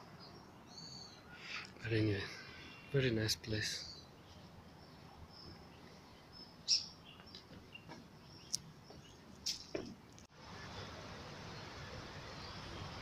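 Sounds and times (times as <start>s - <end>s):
birds chirping: 0.0s - 10.9s
faint outdoor hush: 0.0s - 13.0s.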